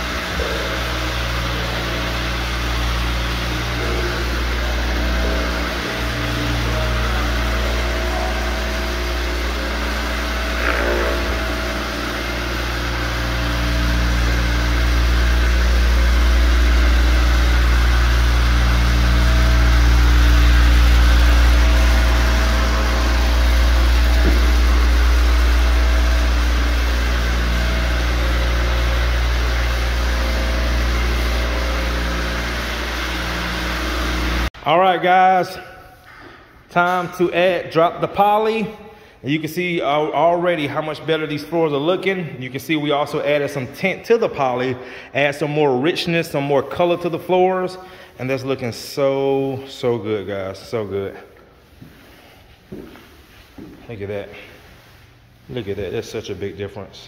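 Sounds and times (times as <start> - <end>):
floor machine motor humming: 0.0 - 35.2, 35.9 - 57.0.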